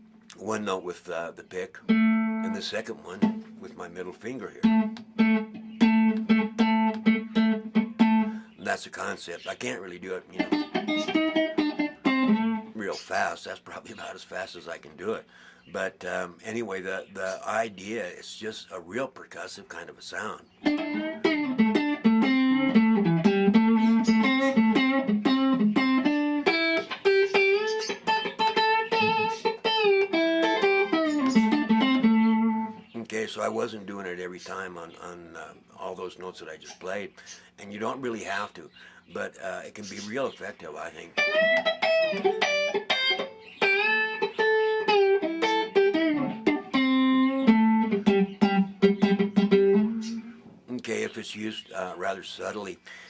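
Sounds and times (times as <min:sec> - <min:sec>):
guitar chicken picking: 0:00.0 - 0:15.2, 0:18.9 - 0:52.7.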